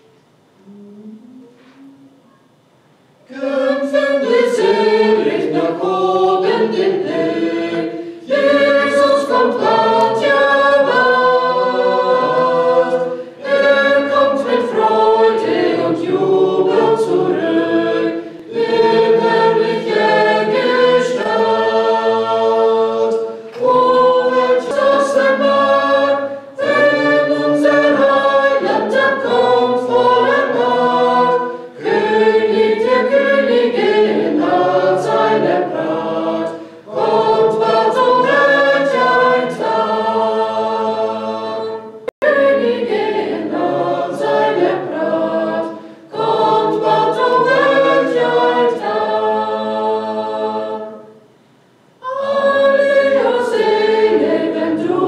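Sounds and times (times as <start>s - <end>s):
group singing a hymn unaccompanied: 3.2s - 51.3s, 52.0s - 55.0s.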